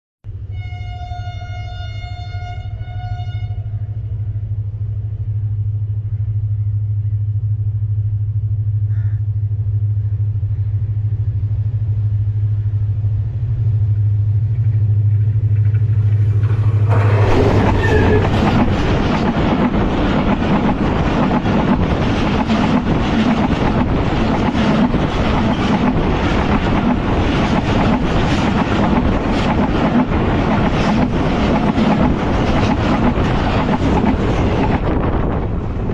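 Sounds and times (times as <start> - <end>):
steel wheels rumbling on rails: 0.3 - 35.9
train engine drone: 0.3 - 35.9.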